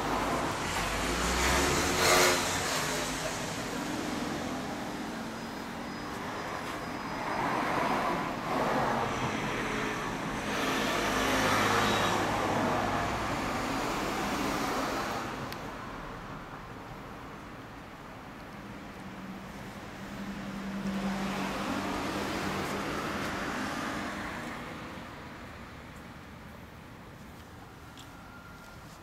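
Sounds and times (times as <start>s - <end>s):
motor vehicle noise: 0.0s - 29.0s.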